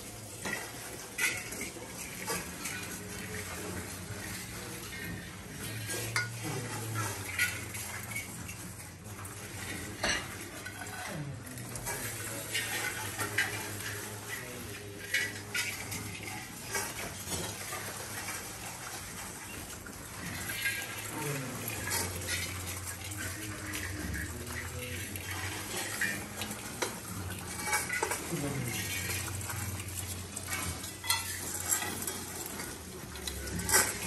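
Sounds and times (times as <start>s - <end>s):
rice pattering on metal plates: 0.0s - 34.0s.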